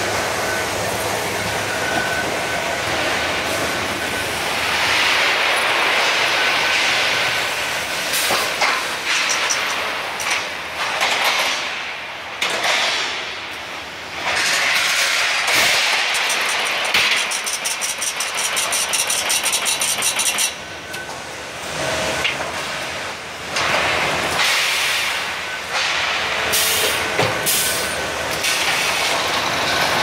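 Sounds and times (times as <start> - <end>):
steel bars on roller conveyors: 0.0 - 13.3, 14.1 - 30.0.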